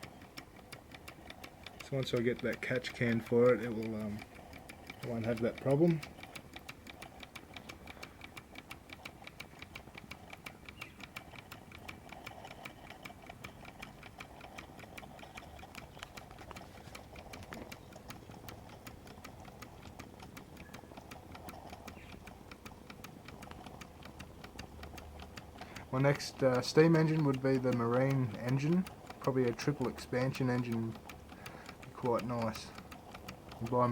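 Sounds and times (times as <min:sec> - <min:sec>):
miniature steam engine ticking: 0:00.0 - 0:33.9.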